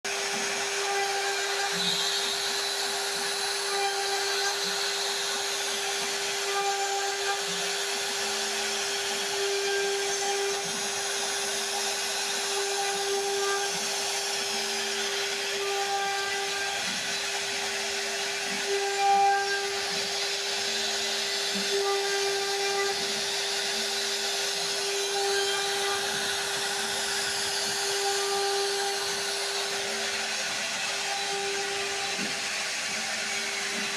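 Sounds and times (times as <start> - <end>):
router spindle whine: 0.0 - 33.9.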